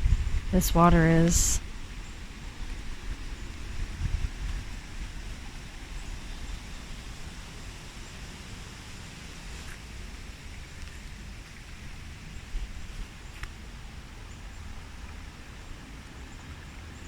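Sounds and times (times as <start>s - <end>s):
even outdoor hiss: 0.0s - 17.0s
wind rumble on microphone: 0.0s - 17.0s.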